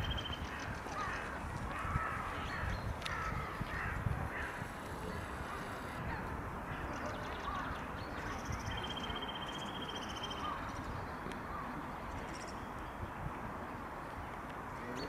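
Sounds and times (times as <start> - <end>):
birds rising calls: 0.0 - 13.0.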